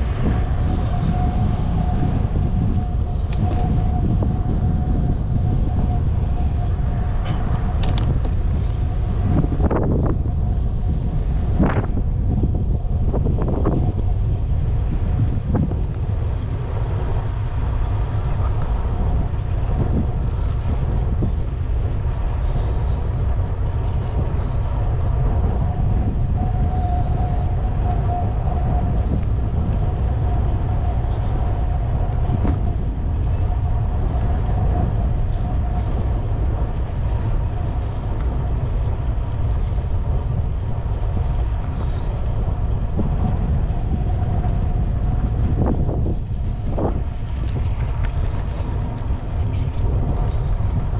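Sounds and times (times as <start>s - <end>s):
faint thin whine: 0.0s - 50.9s
wind buffeting microphone: 0.0s - 50.9s.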